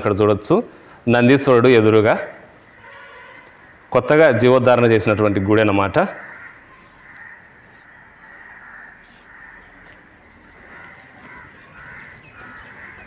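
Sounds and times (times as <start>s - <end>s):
faint outdoor background noise: 0.0s - 13.0s
birds calling: 1.7s - 13.0s.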